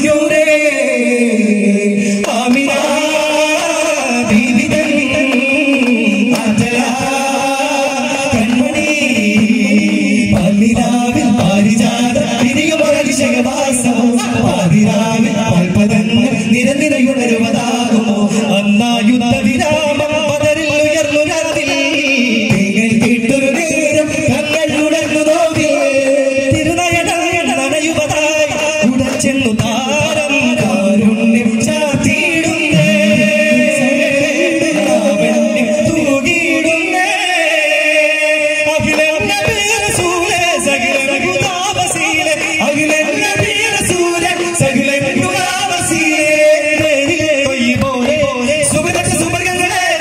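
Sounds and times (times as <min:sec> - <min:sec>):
man singing: 0:00.0 - 0:50.0
frame drums beating in unison: 0:02.0 - 0:50.0.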